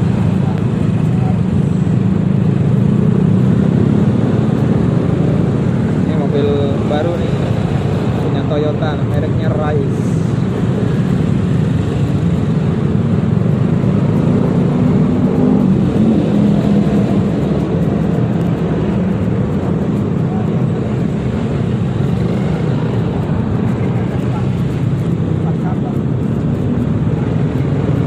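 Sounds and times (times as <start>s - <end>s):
road and wind noise: 0.0s - 28.0s
scooter engine running: 0.0s - 28.0s.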